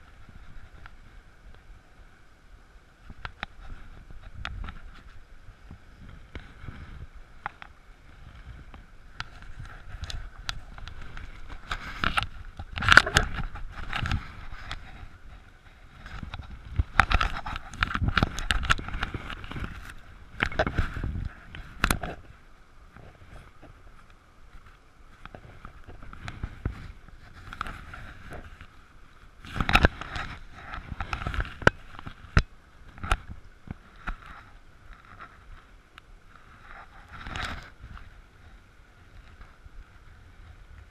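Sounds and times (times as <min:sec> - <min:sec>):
stony stream running: 0:00.0 - 0:40.9.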